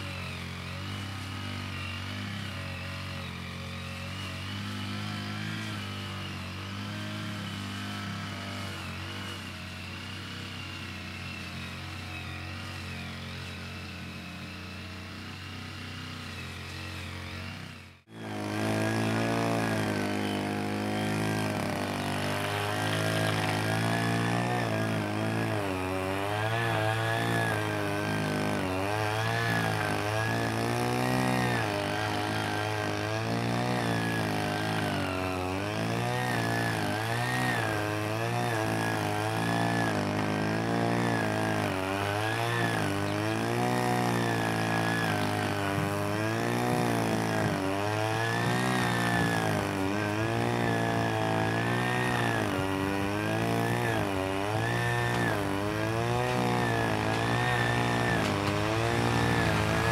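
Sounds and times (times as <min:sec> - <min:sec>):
engine revving up and down: 0:00.0 - 0:59.9.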